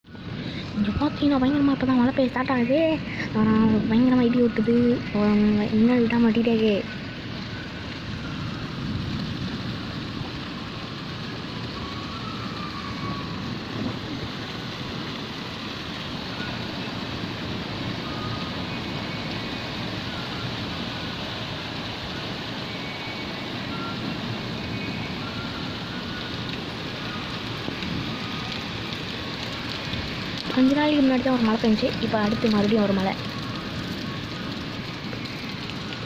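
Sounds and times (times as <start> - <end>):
heavy rain in strong wind: 0.0 - 36.0.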